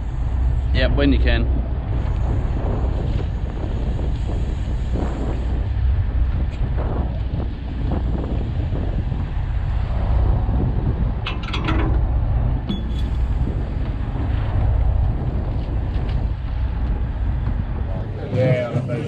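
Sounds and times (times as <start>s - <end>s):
boat diesel engine droning: 0.0s - 19.0s
wind buffeting microphone: 0.0s - 19.0s.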